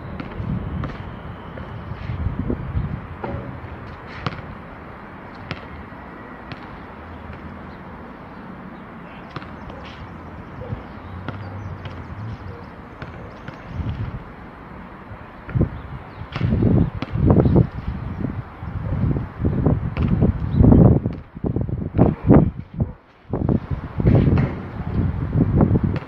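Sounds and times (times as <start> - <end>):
open-air background noise: 0.0 - 26.0.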